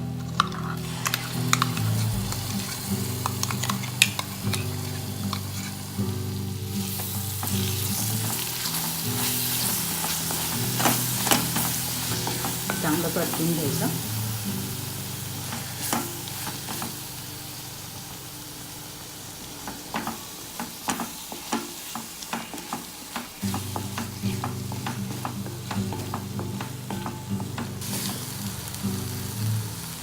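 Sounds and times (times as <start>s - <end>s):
paste sizzling in a pan: 0.0s - 30.0s
spoon scraping a pan: 0.1s - 17.0s, 19.6s - 28.4s.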